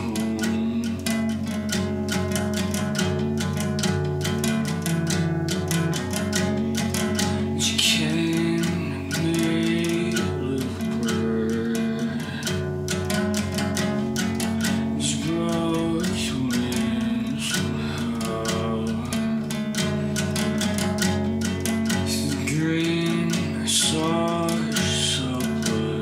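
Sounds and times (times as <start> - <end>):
solo guitar picked notes: 0.0 - 26.0.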